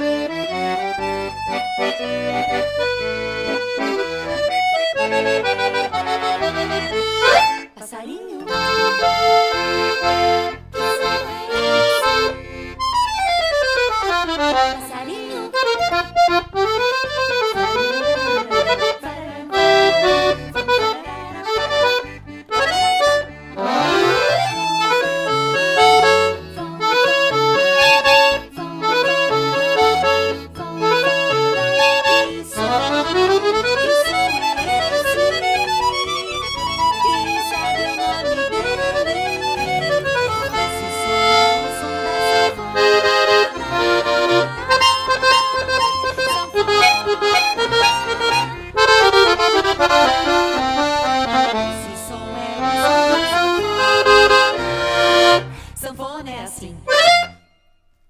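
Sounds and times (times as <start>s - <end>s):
rhythmic bass accompaniment: 0.0s - 7.7s, 8.4s - 57.3s
accordion playing lively tune: 0.0s - 57.5s.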